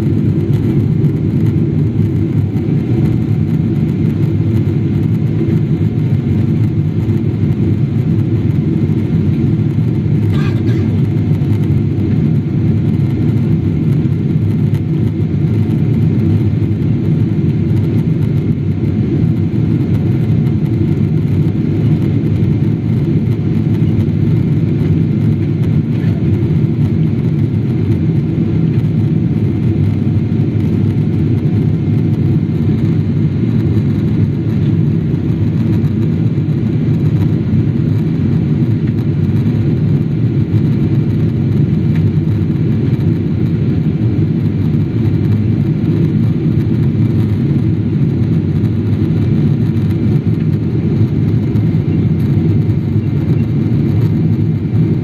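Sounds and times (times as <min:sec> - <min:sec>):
jet engine cabin drone: 0:00.0 - 0:55.0.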